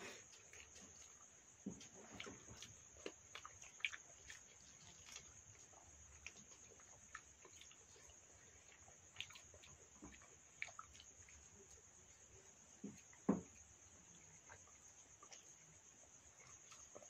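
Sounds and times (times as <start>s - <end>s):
chewing: 0.0s - 17.0s
crickets chirping: 0.0s - 17.0s
fingers mixing rice in bowls: 0.2s - 17.0s.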